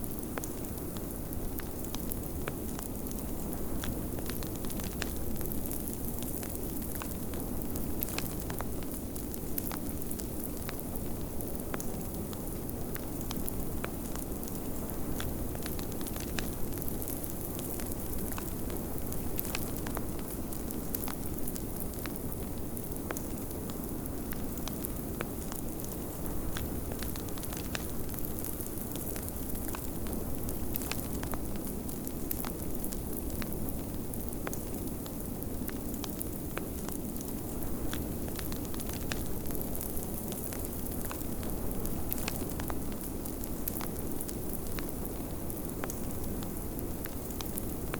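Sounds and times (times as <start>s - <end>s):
fireplace crackling and popping: 0.0s - 47.9s.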